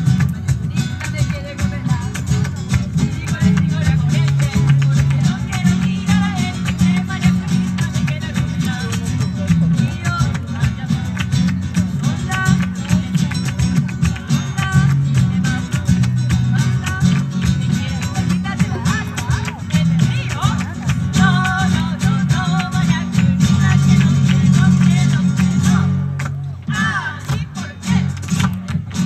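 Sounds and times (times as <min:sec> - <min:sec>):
flamenco acoustic guitars strumming: 0:00.0 - 0:29.0.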